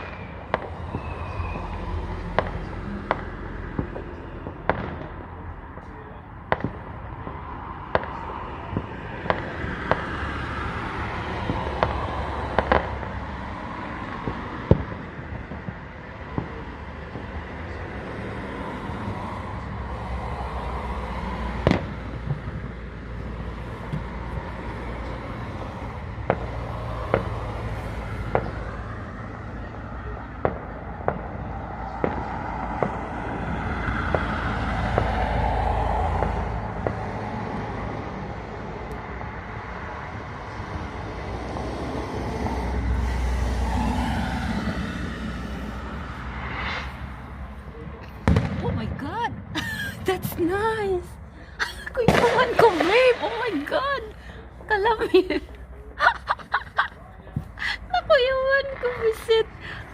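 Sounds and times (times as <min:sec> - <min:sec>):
background rumble: 0:00.0 - 0:59.9
fireworks bangs: 0:00.0 - 0:59.9.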